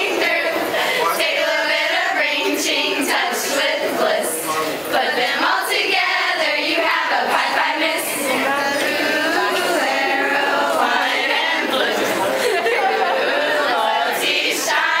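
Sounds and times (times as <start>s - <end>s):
group of women singing together: 0.0s - 15.0s.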